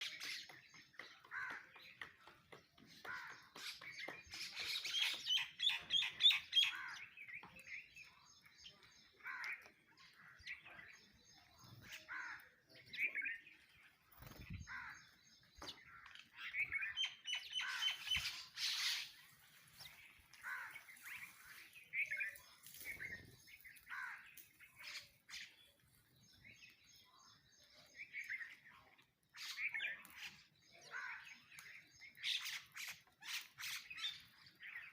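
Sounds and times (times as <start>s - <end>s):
sparrows chirping: 0.0s - 34.9s.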